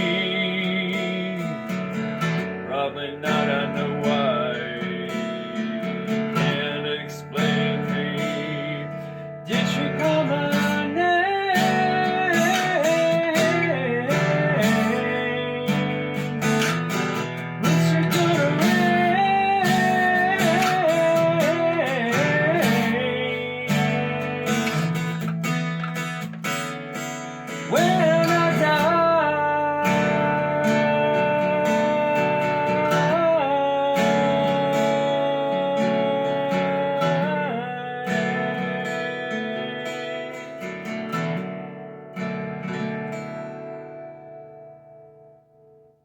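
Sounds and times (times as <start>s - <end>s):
sliding guitar melody note: 0.0s - 40.8s
acoustic guitar strumming chords: 0.0s - 46.0s.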